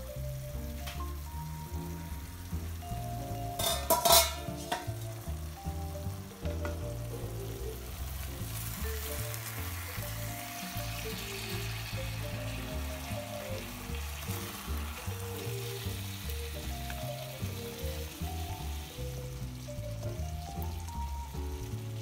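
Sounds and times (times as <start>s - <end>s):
background music: 0.0s - 22.0s
fish and vegetables sizzling in wok: 0.0s - 22.0s.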